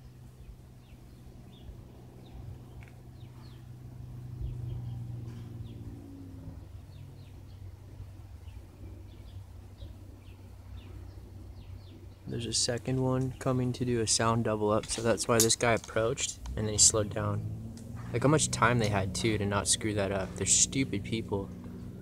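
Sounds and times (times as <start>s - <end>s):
light aircraft engine droning overhead: 0.0s - 22.0s
small birds chirping: 0.0s - 22.0s.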